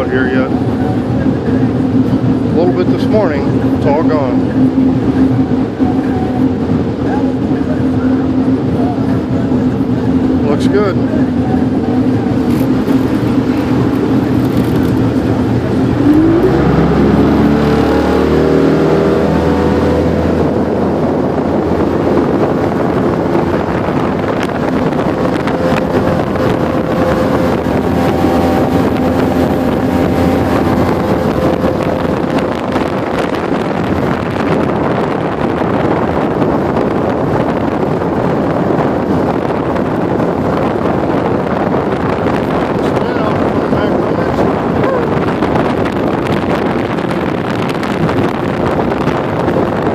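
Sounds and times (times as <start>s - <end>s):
boat motor: 0.0s - 49.9s.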